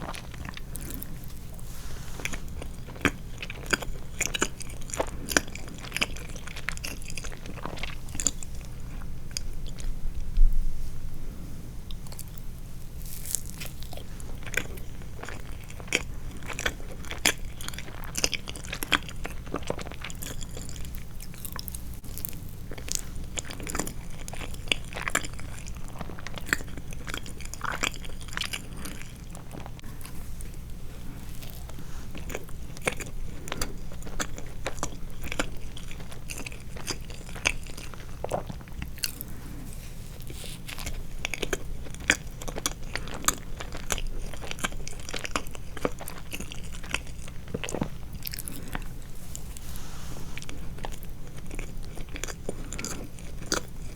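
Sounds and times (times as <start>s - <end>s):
person chewing sweets: 0.0s - 10.0s, 11.8s - 53.9s
steady low hum: 0.0s - 53.9s.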